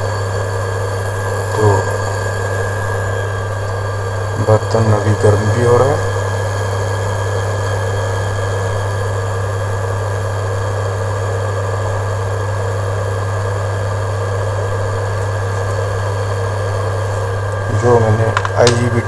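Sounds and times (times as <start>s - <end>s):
induction cooker hum and whine: 0.0s - 19.0s.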